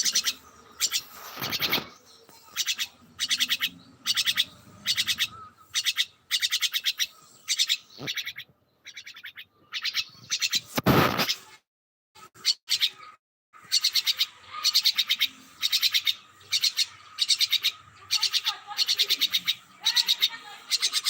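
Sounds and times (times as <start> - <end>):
small birds chirping: 0.0 - 11.6, 12.2 - 21.0.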